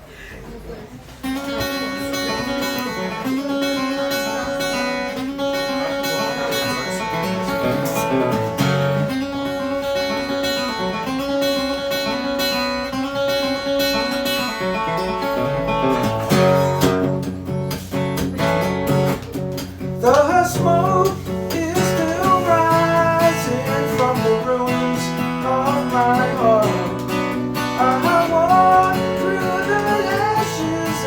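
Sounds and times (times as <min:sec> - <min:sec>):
acoustic guitar strumming: 0:01.2 - 0:31.0.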